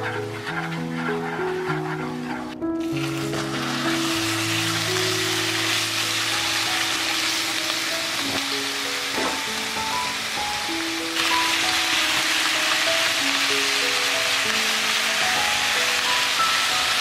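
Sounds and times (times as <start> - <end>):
food sizzling: 0.0 - 17.0
soft background music: 0.0 - 17.0.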